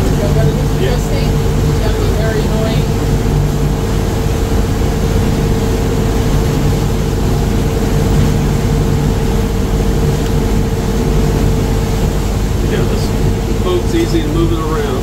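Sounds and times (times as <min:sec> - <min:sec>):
boat diesel engine drone: 0:00.0 - 0:15.0
steady whine: 0:00.0 - 0:15.0.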